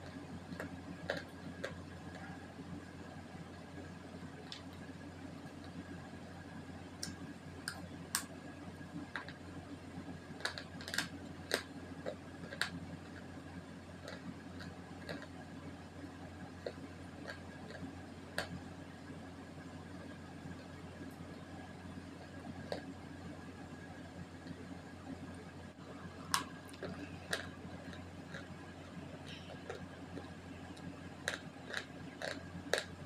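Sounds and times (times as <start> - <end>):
crunching of chewing: 0.0 - 6.1, 8.9 - 19.2, 20.2 - 23.0, 25.7 - 33.0
steady low hum: 0.0 - 33.0.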